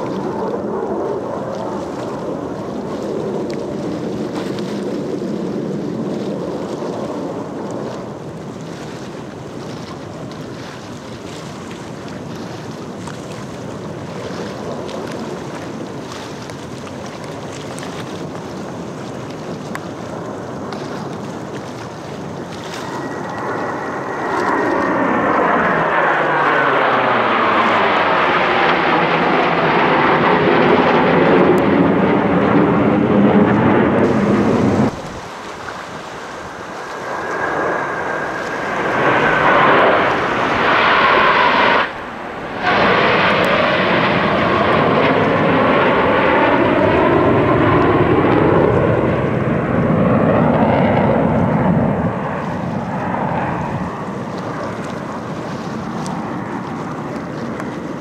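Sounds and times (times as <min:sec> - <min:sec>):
jet roar passing overhead: 0:00.0 - 0:58.0
wind on microphone: 0:00.0 - 0:58.0.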